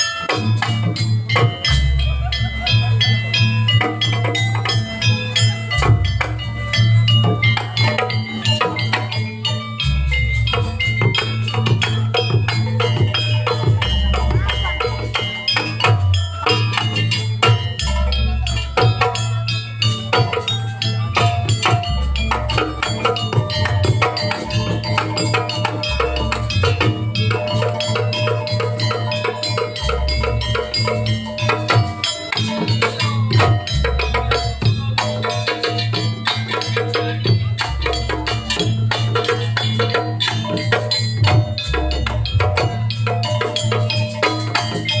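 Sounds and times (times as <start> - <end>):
rapid drum and wooden strokes: 0.0 - 45.0
ringing pitched percussion: 0.0 - 45.0.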